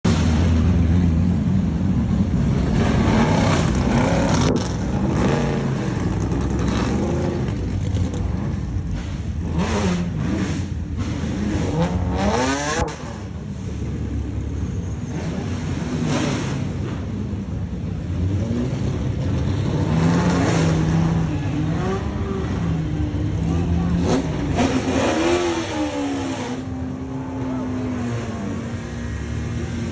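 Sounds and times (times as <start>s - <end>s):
race car engines revving: 0.1s - 29.9s.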